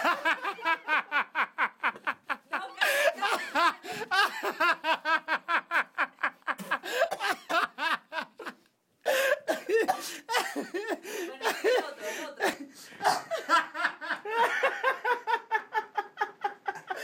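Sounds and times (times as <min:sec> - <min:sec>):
people laughing hard: 0:00.0 - 0:17.0.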